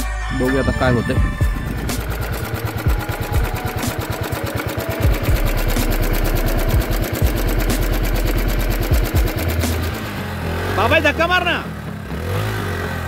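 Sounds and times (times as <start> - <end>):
motorcycle engine running: 0.5 - 13.0.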